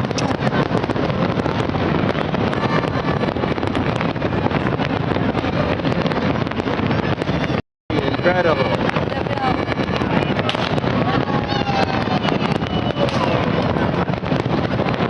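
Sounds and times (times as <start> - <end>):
fireworks explosions and crackles: 0.0 - 15.0.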